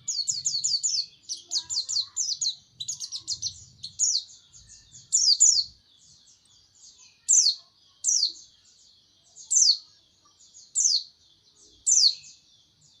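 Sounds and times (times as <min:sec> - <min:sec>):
soft bird twittering: 0:00.0 - 0:13.0
songbird chirping: 0:00.0 - 0:13.0.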